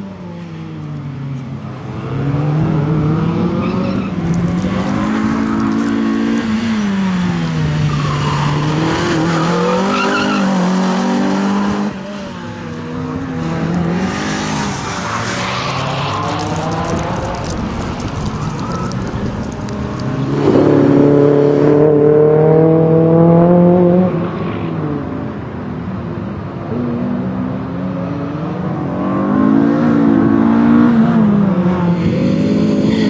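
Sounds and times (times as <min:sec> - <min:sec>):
rally car engine revving: 0:01.8 - 0:25.2, 0:26.7 - 0:33.0.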